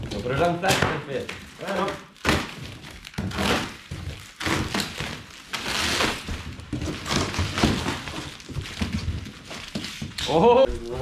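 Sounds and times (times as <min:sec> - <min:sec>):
plastic wrap ripping: 0:00.0 - 0:11.0.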